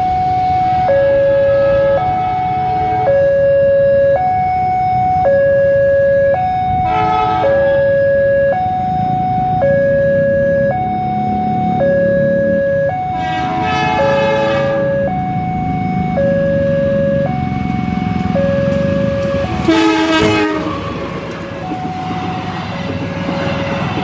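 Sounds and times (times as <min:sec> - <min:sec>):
level crossing two-tone alarm: 0:00.0 - 0:20.6, 0:21.4 - 0:22.8
diesel locomotive rumble: 0:00.0 - 0:24.0.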